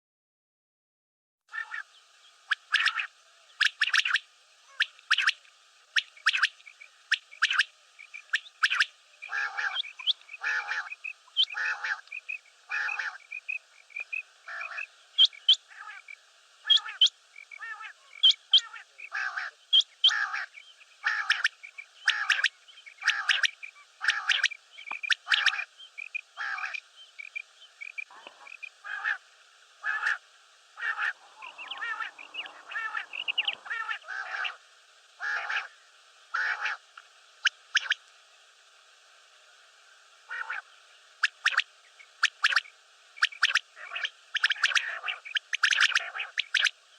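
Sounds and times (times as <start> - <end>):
common quail calling: 1.5 - 29.2, 29.8 - 30.2, 30.8 - 34.6, 35.2 - 36.8, 37.4 - 38.0, 40.3 - 46.8
faint hiss: 1.5 - 46.9.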